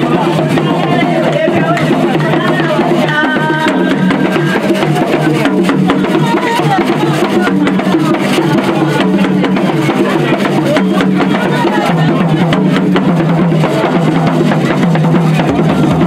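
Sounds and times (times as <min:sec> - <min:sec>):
loud music with drums: 0:00.0 - 0:16.0.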